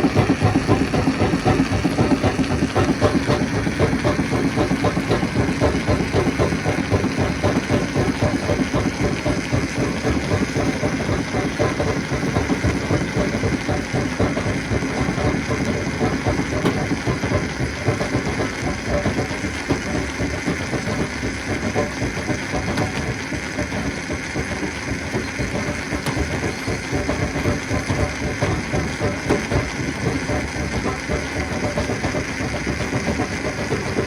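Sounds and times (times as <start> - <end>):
heavy engine drone: 0.0 - 34.0
rapid machinery rattle: 0.0 - 34.0.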